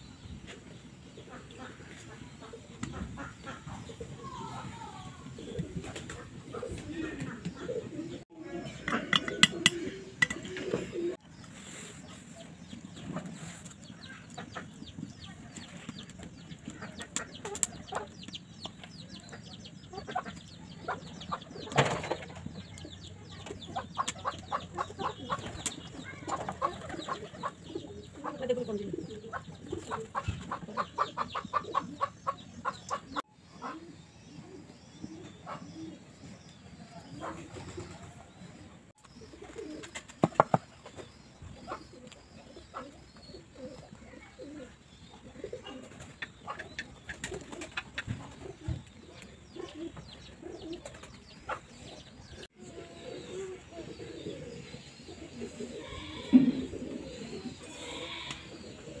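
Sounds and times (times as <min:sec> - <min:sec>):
pigeons cooing: 0:00.8 - 0:15.0, 0:19.2 - 0:59.0.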